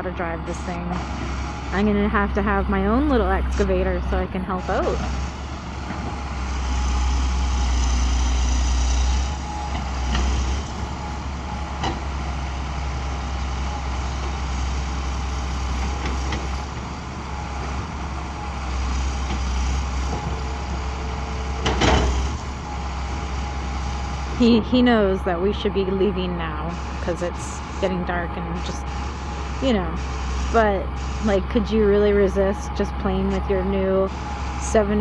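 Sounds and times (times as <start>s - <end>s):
constant hydraulic whine: 0.0s - 35.0s
distant excavator running: 0.0s - 35.0s.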